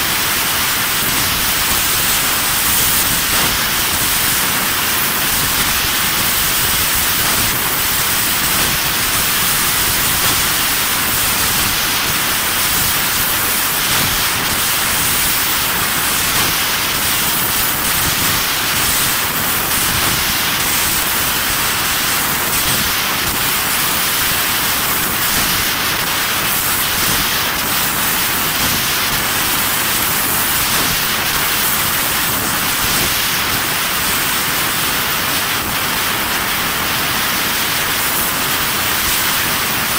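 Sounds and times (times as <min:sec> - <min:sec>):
loud hiss of gas jet: 0:00.0 - 0:39.9.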